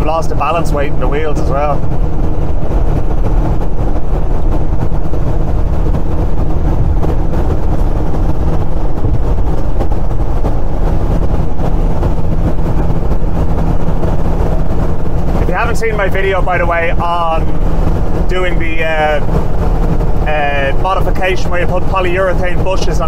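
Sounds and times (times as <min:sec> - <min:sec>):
diesel engine running under load: 0:00.0 - 0:23.0
road and wind noise: 0:00.0 - 0:23.0.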